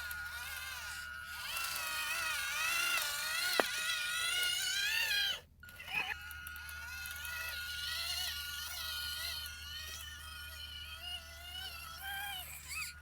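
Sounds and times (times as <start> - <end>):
electric gear motors whining: 0.0 - 13.0.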